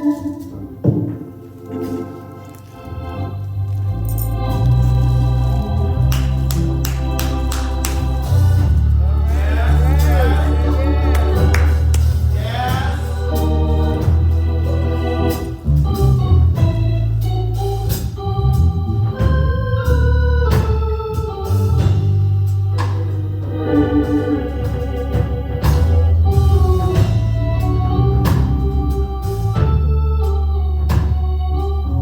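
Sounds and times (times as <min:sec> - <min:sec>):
organ playing held chords: 0:00.0 - 0:32.0
deep steady bass: 0:03.2 - 0:32.0.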